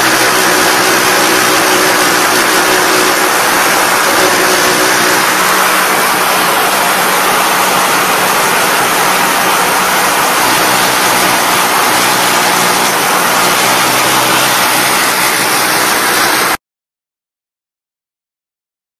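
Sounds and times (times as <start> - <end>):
low machine hum: 0.0 - 16.6
packaging machinery running: 0.0 - 16.6.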